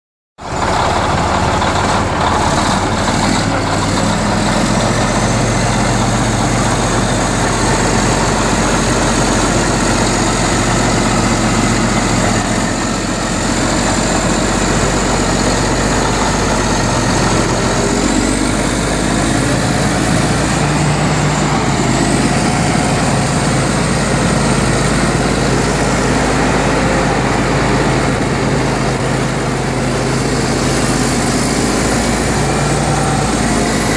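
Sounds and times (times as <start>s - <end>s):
bulldozer diesel engine running: 0.4s - 33.9s.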